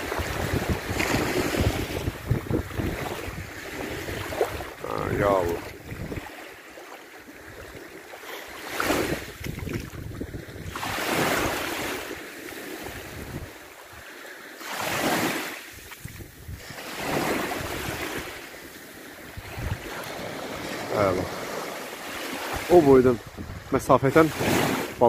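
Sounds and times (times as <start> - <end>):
wind rumbling on microphone: 0.0 - 6.4, 8.6 - 14.1, 15.7 - 18.5, 19.1 - 25.0
small waves breaking on shore: 0.0 - 25.0.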